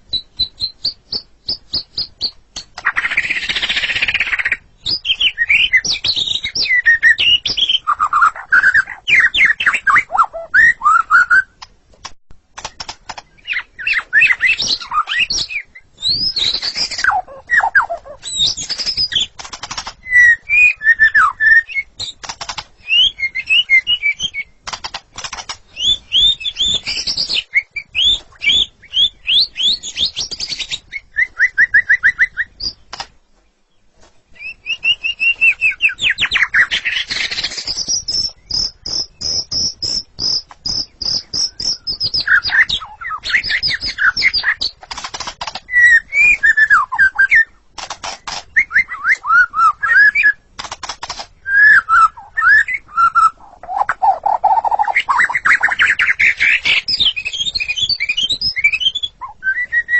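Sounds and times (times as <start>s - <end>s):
songbird singing whistled phrases: 0.1s - 11.6s, 13.2s - 24.6s, 25.6s - 32.9s, 34.4s - 44.8s, 45.5s - 47.6s, 48.3s - 50.4s, 51.4s - 59.9s.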